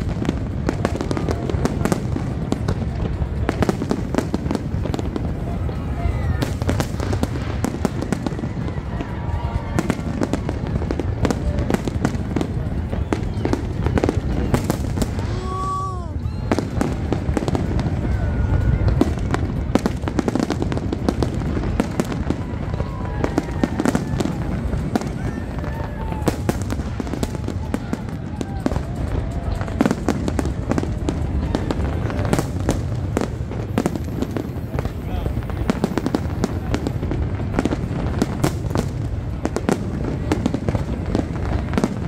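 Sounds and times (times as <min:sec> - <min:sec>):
fireworks bursting: 0:00.0 - 0:42.0
low rumble of explosions: 0:00.0 - 0:42.0.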